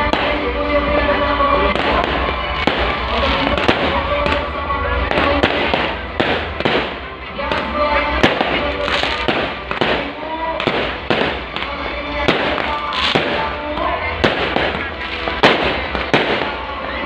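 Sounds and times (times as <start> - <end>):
crowd voices: 0.0 - 17.0
fireworks bangs and crackles: 0.0 - 17.0
music over loudspeakers: 0.0 - 17.0.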